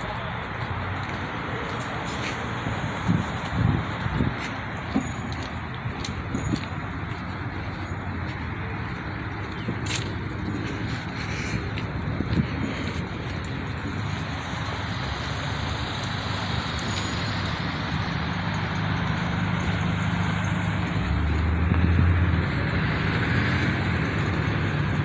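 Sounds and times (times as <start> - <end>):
road noise hiss: 0.0 - 25.0
vehicle engine hum: 0.0 - 25.0.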